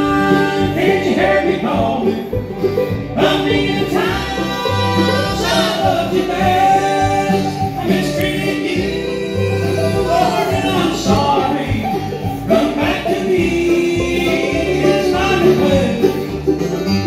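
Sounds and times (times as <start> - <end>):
bluegrass band through pa: 0.0 - 17.0.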